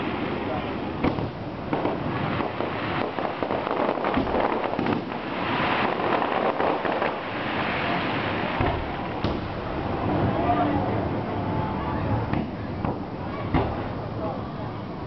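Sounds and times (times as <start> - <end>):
fireworks crackling: 0.0 - 14.3.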